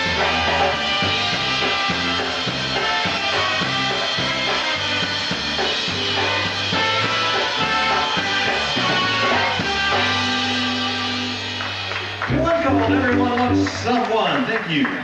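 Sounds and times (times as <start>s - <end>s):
drum kit beat: 0.0s - 14.1s
polka band playing: 0.0s - 14.2s
bass: 0.0s - 15.0s.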